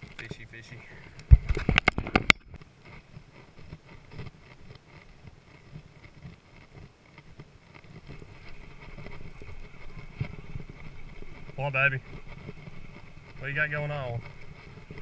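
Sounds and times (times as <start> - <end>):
wind on microphone: 0.0 - 15.0
fishing reel scratches and ticks: 2.8 - 15.0.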